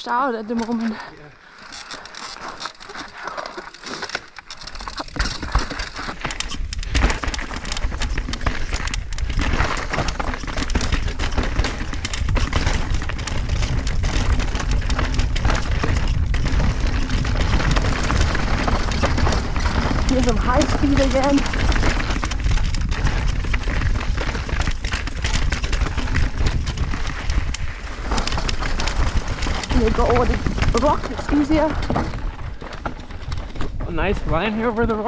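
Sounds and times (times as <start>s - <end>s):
bike rattling: 0.0s - 35.0s
tyres crunching over rock and gravel: 0.1s - 35.0s.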